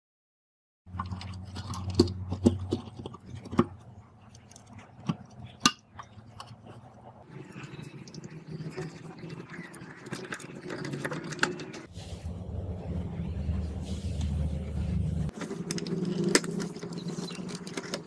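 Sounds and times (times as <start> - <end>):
low hum: 0.9 - 18.0.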